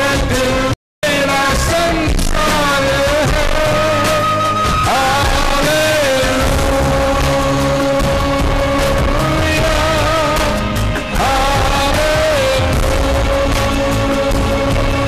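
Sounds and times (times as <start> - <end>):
instrumental backing: 0.0 - 15.0
person singing long notes: 0.0 - 15.0.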